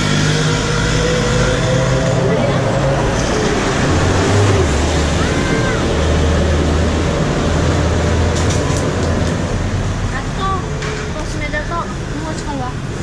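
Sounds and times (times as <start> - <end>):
dense wash of noise: 0.0 - 13.0
vehicle engine humming: 0.0 - 13.0.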